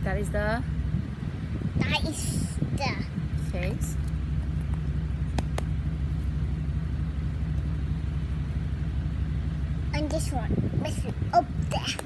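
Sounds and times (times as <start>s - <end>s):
low background rumble and hum: 0.0s - 12.0s.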